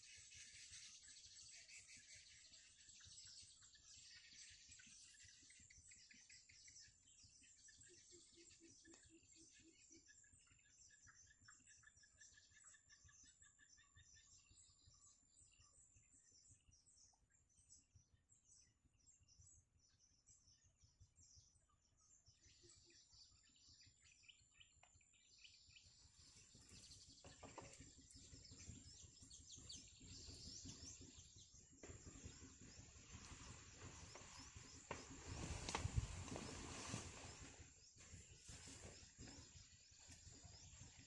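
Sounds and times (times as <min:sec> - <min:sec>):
faint bird chirps: 0:00.0 - 0:41.0.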